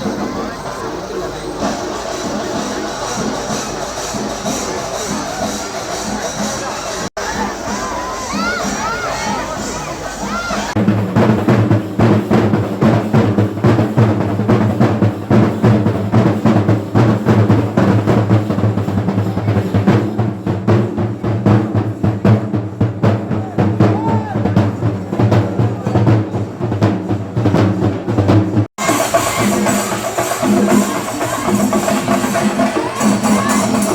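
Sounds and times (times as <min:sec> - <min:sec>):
drums beaten fast: 0:00.0 - 0:33.9.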